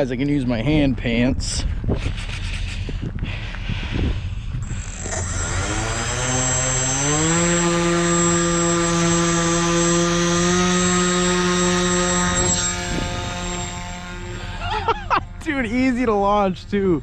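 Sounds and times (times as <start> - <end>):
electric motor and propeller buzzing: 1.6 - 17.0.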